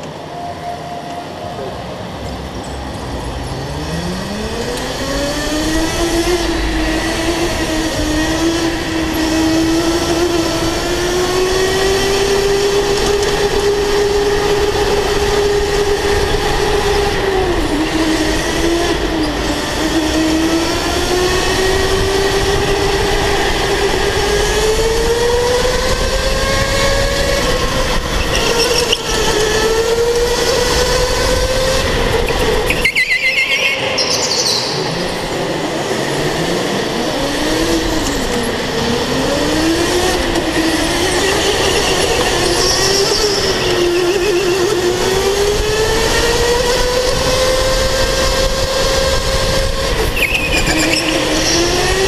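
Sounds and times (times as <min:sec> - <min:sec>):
steady rushing noise: 0:00.0 - 0:52.0.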